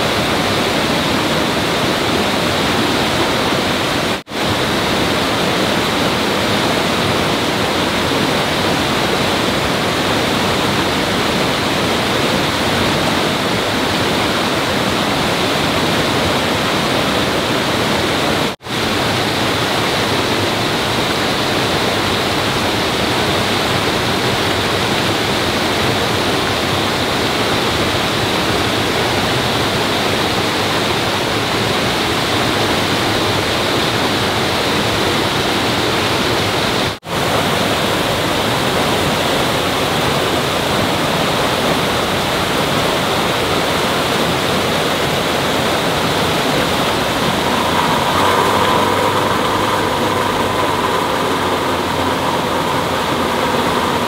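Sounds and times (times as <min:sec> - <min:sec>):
rushing flowing water: 0:00.0 - 0:54.0.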